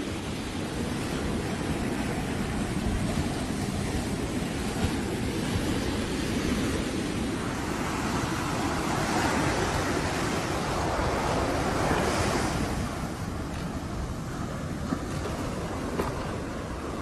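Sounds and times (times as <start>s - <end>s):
ocean surf breaking on beach: 0.0s - 17.0s
wind on microphone: 0.0s - 17.0s.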